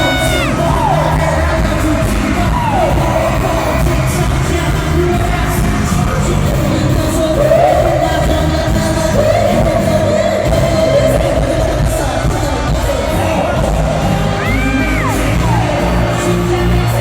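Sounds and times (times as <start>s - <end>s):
amplified pop music with heavy bass: 0.0s - 17.0s
person singing: 0.0s - 17.0s.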